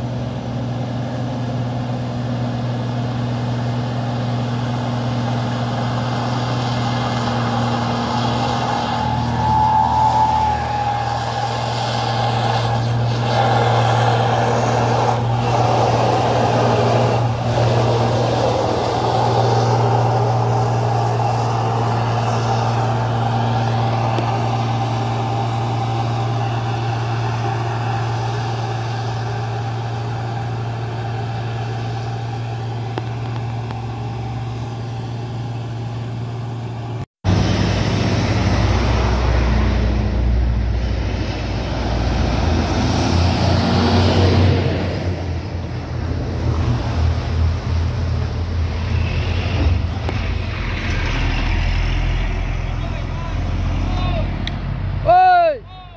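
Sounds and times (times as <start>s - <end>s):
truck diesel engine driving past: 0.0s - 55.7s
heavy vehicle engine rumble: 0.0s - 55.9s.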